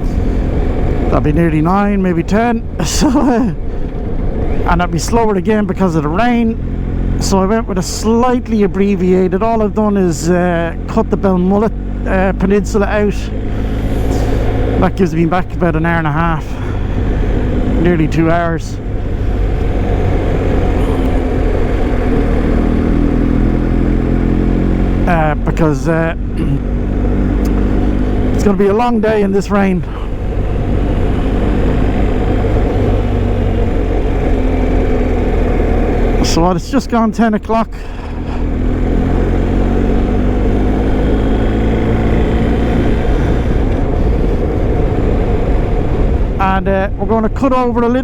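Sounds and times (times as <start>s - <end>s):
motorcycle engine running: 0.0s - 47.4s
road noise: 0.0s - 48.0s
wind: 0.0s - 48.0s.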